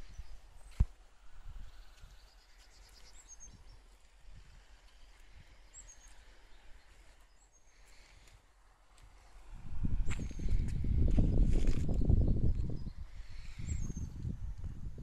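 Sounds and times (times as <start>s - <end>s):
birds chirping: 0.0s - 9.5s, 10.1s - 14.8s.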